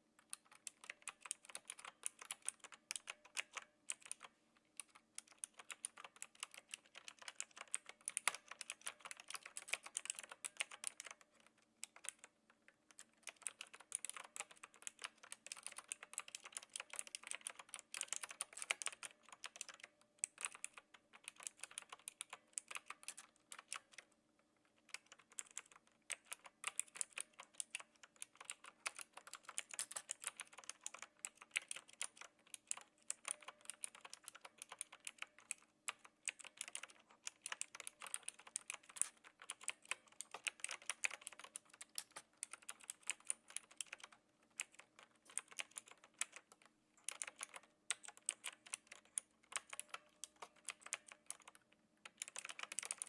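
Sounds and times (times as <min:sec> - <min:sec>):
mechanical keyboard key clicks: 0:00.2 - 0:24.1, 0:24.8 - 0:53.0.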